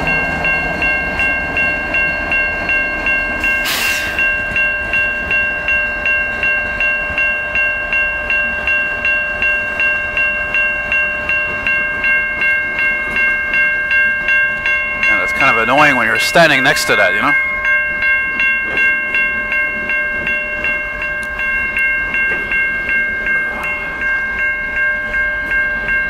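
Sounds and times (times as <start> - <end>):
crossing warning bell ringing: 0.0 - 26.0
freight train rumbling past: 0.0 - 26.0.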